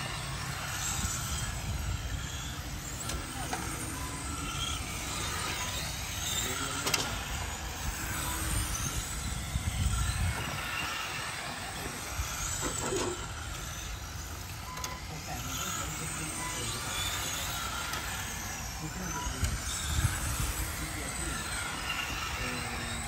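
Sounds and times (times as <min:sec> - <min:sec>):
rc car motors whining: 0:00.0 - 0:23.0.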